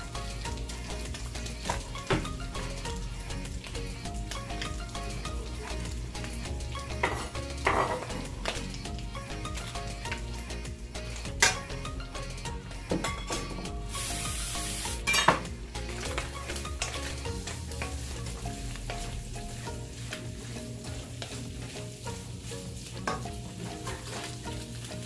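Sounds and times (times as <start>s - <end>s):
meat sizzling in a skillet: 0.0s - 25.0s.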